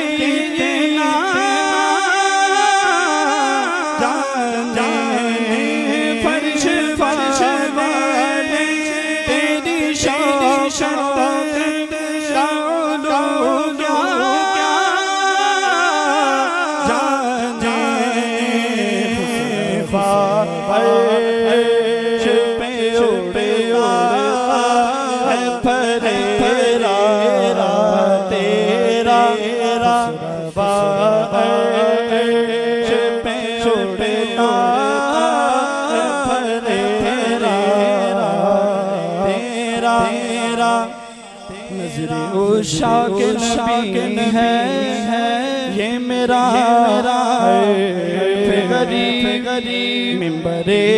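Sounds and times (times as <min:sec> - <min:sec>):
man singing ornamented phrases: 0:00.0 - 0:50.9.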